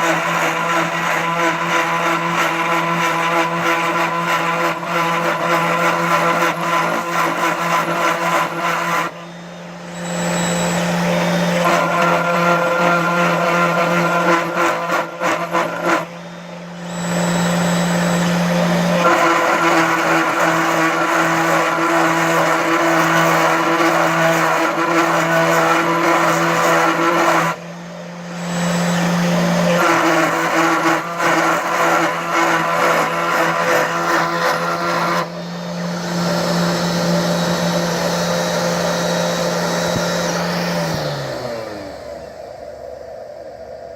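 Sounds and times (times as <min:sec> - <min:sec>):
milling spindle whine: 0:00.0 - 0:43.8.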